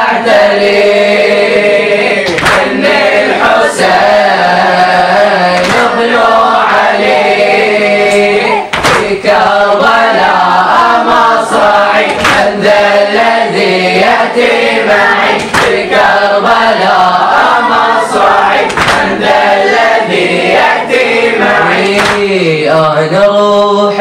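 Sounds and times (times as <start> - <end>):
boys chanting in chorus: 0.0 - 24.0
sharp rhythmic hits: 0.8 - 22.6.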